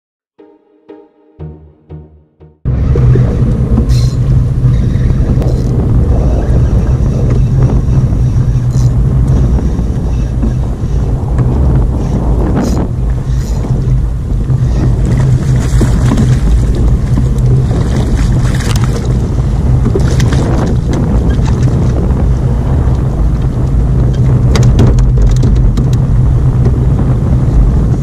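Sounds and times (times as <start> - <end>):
wind buffeting microphone: 2.7 - 28.0.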